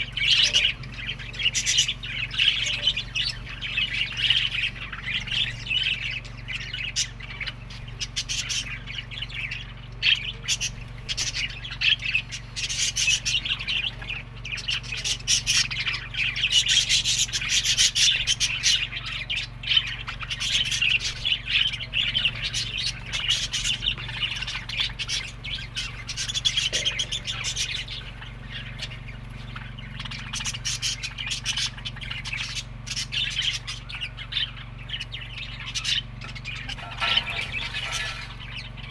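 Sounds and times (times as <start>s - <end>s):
budgerigars chattering: 0.0s - 38.9s
steady low hum: 0.0s - 38.9s.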